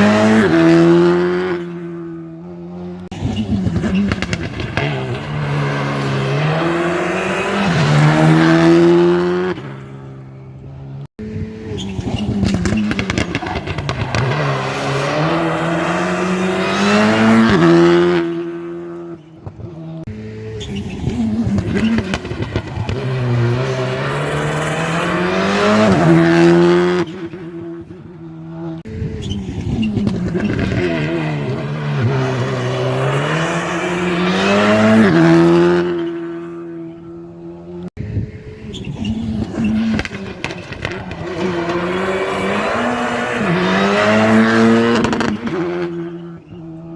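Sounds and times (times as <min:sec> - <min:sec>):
rally cars passing at speed: 0:00.0 - 0:46.9.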